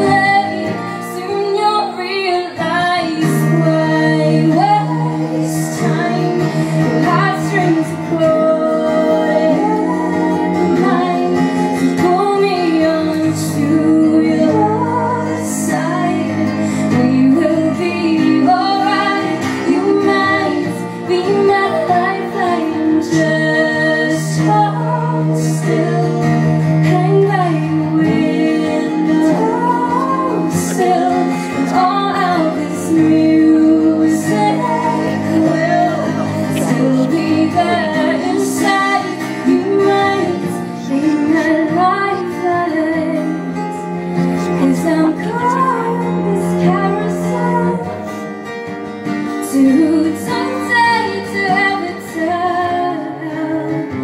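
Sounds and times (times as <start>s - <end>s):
woman singing: 0.0s - 48.4s, 49.2s - 54.0s
acoustic guitars playing: 0.0s - 54.0s.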